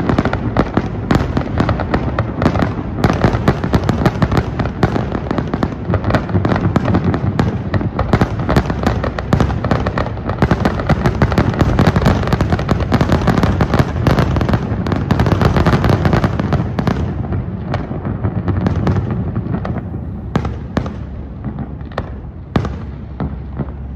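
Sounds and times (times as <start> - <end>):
fireworks bursts and crackles: 0.0 - 23.9.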